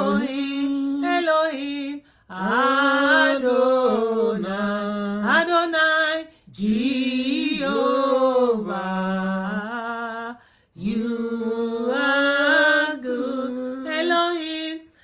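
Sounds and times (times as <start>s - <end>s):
person singing unaccompanied: 0.0s - 14.9s.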